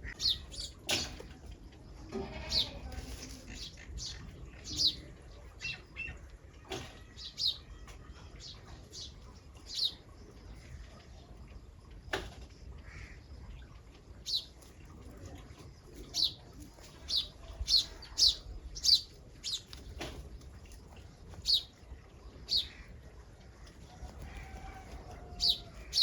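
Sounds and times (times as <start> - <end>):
birds chirping: 0.0 - 11.8, 13.0 - 26.0.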